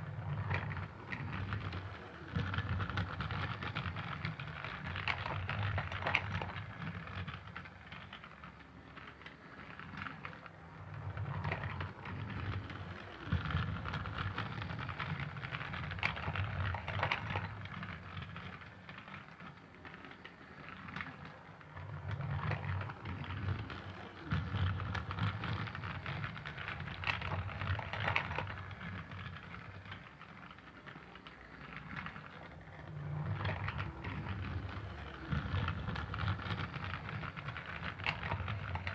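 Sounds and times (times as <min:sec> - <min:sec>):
toy train motor humming: 0:00.0 - 0:38.9
toy train wheels clattering: 0:00.0 - 0:38.9.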